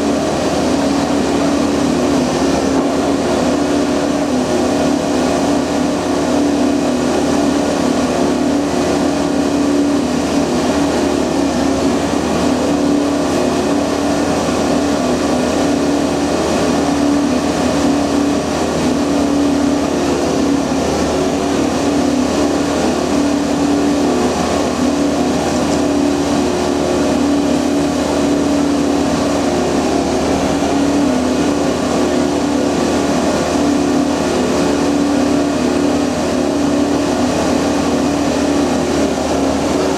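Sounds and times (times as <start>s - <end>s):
track machine droning: 0.0s - 39.9s.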